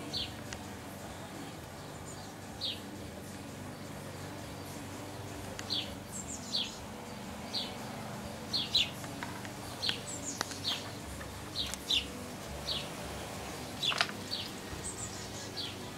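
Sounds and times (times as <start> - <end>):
songbird chirping: 0.0 - 15.9.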